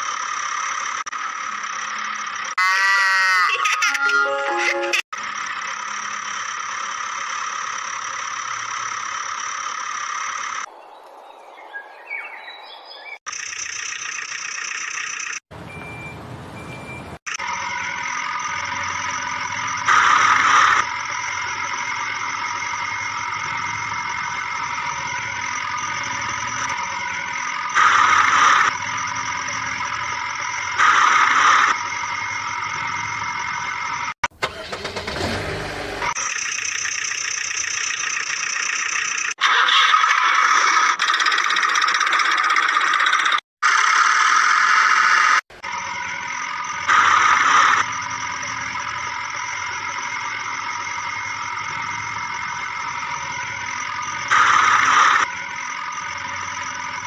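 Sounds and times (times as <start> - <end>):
backhoe engine humming with whine: 0.0 - 10.7, 13.3 - 57.0.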